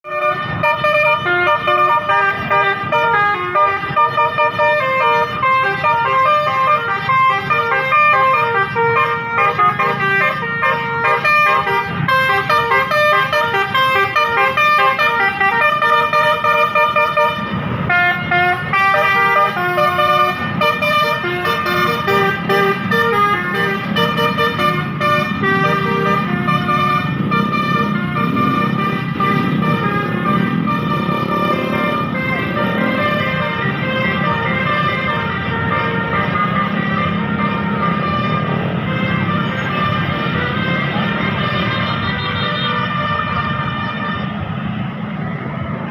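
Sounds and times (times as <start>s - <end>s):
musical air horn melody: 0.0s - 44.4s.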